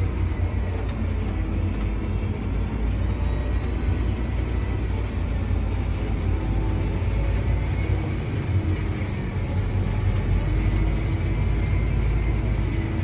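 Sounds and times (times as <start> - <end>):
faint high whine: 0.0 - 13.0
tractor engine rumbling: 0.0 - 13.0.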